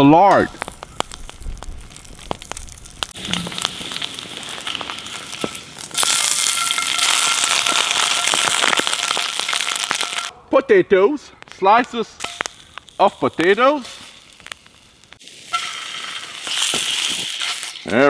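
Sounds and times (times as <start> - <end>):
lard sizzling in a pan: 0.3 - 10.3, 12.2 - 18.0.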